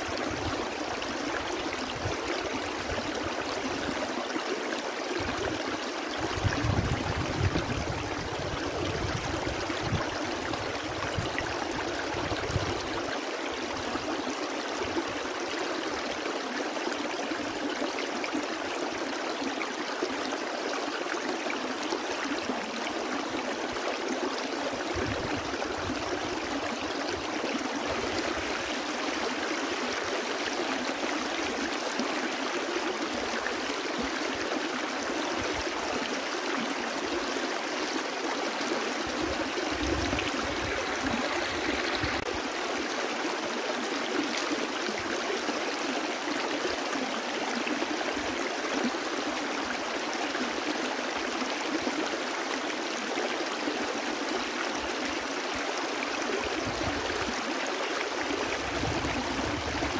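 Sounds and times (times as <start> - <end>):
brook flowing: 0.0 - 59.9.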